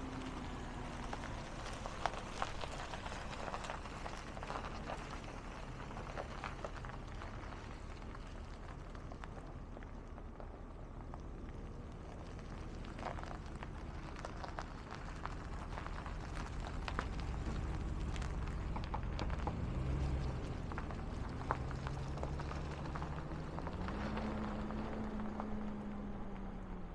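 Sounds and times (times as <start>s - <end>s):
gravel crunching: 0.0s - 26.9s
pickup truck engine: 0.0s - 26.9s.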